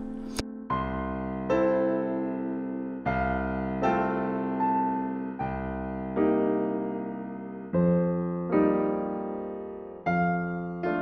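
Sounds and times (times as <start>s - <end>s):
calm piano chords: 0.0s - 11.0s.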